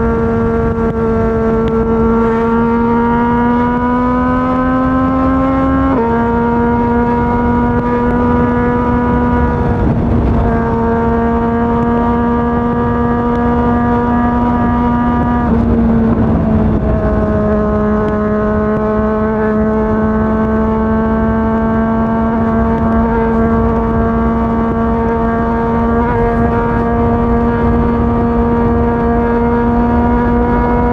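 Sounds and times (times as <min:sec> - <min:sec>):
motorcycle engine cruising: 0:00.0 - 0:30.9
wind and road noise: 0:00.0 - 0:30.9.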